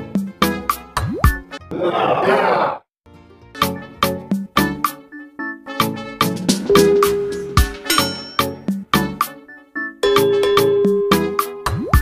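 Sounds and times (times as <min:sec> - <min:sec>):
upbeat instrumental music: 0:00.0 - 0:01.6, 0:03.1 - 0:12.0.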